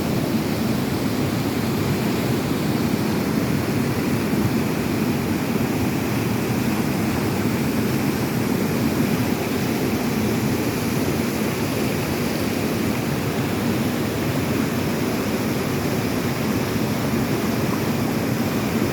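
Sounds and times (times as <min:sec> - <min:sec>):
rushing river water: 0:00.0 - 0:18.9.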